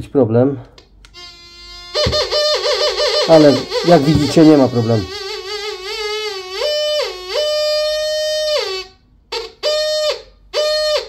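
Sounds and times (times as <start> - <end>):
metal detector buzzy tone: 1.1 - 11.0.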